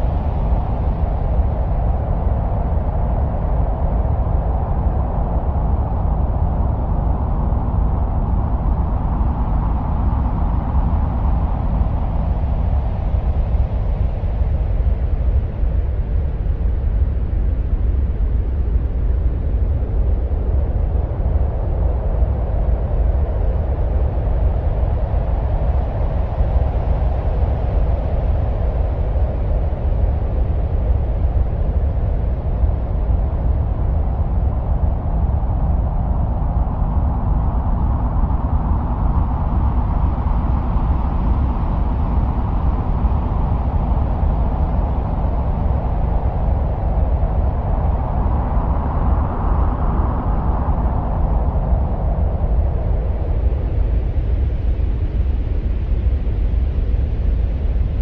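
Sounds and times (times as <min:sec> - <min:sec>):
wind-like rumbling roar: 0:00.0 - 0:58.0.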